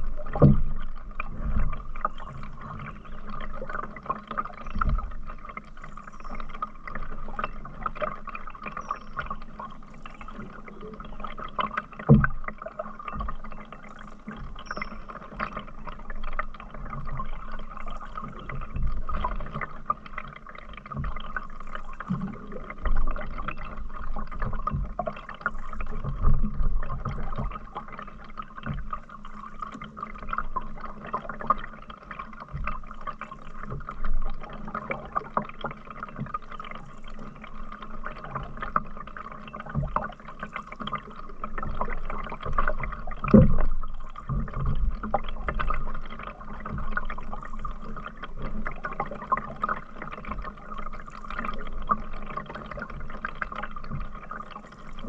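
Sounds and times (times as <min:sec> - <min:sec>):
paddle working through water: 0:00.0 - 0:55.0
water trickling and gurgling: 0:00.0 - 0:55.0.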